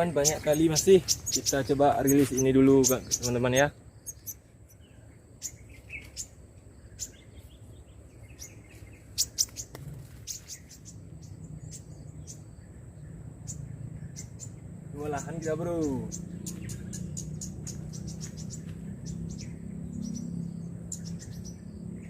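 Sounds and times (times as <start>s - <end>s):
small birds chirping: 0.0s - 22.0s
low steady hum: 3.0s - 22.0s.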